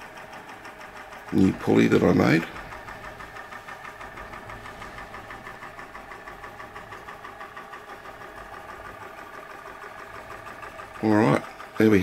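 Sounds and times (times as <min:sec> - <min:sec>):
hot air engine running: 0:00.0 - 0:12.0.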